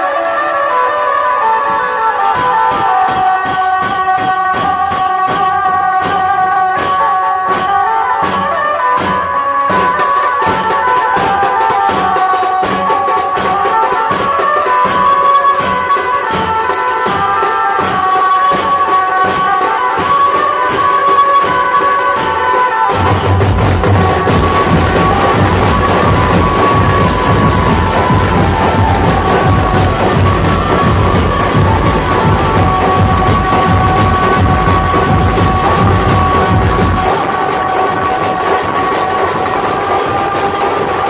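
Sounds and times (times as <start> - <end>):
sharp drum strokes: 2.4 - 41.0.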